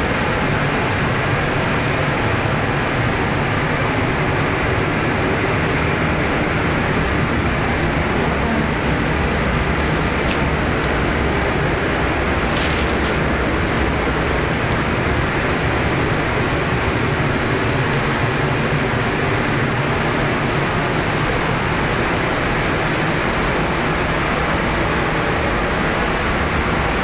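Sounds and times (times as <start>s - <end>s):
ventilation air rushing: 0.0s - 27.0s.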